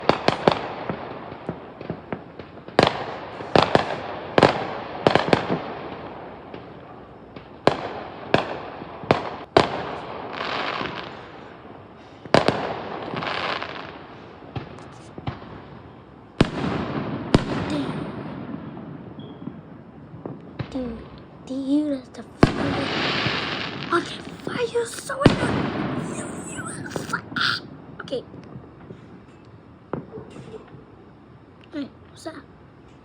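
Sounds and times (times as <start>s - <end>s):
fireworks bangs: 0.0s - 31.2s
fireworks crackling: 0.0s - 32.4s.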